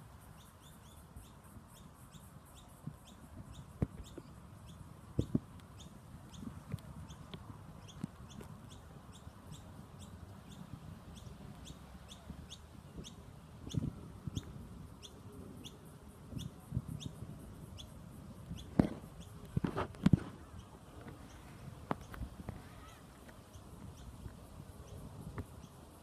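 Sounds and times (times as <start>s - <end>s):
bird chirping: 0.1s - 26.0s.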